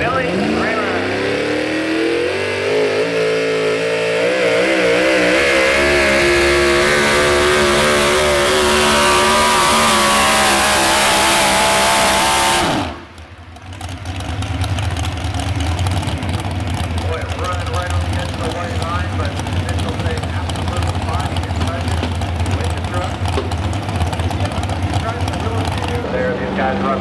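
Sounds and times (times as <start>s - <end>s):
truck engine at full throttle: 0.0s - 27.0s.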